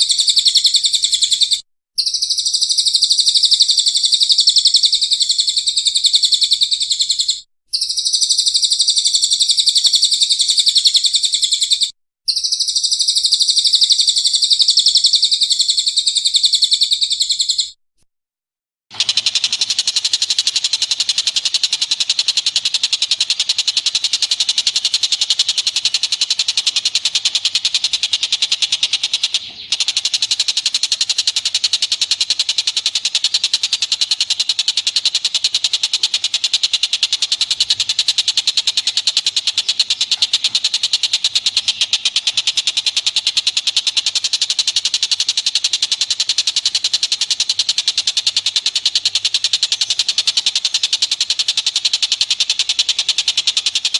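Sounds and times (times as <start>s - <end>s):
bird chattering song: 0.0s - 17.8s, 18.9s - 53.9s
harsh rapid bird chattering: 0.0s - 17.8s, 18.9s - 53.9s.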